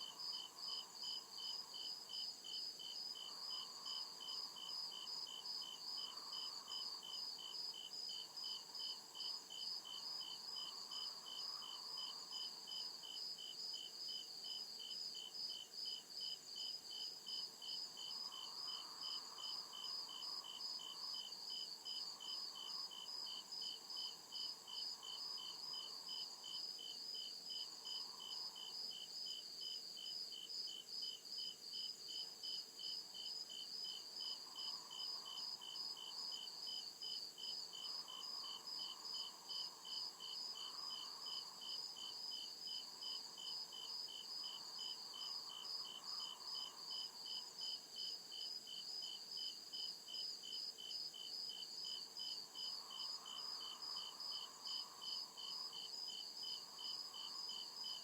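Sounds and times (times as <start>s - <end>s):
crickets chirping: 0.0s - 58.0s
low insect hum: 0.0s - 58.0s.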